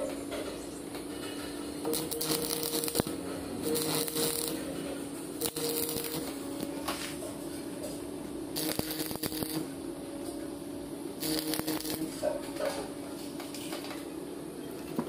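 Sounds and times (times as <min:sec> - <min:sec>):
steady hum: 0:00.0 - 0:15.0
welding arc crackling: 0:00.9 - 0:13.9.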